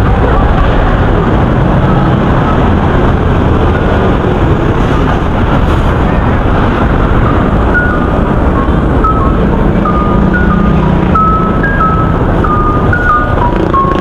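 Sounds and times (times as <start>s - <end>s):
loud outdoor rumble with hiss: 0.0s - 14.0s.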